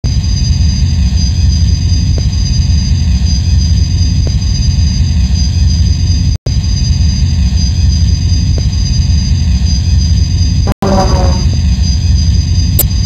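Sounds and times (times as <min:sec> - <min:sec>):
heavy low rumble: 0:00.0 - 0:13.0.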